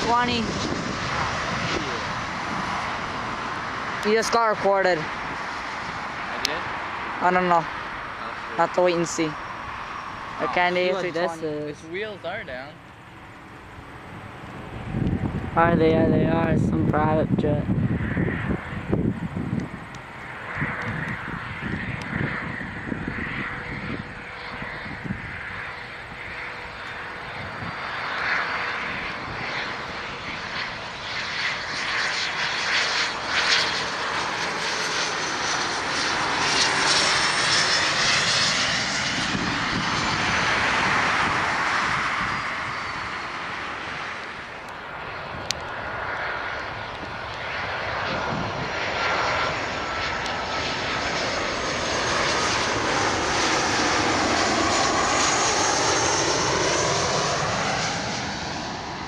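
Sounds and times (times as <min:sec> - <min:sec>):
jet aircraft engines roaring: 0:00.0 - 0:59.0.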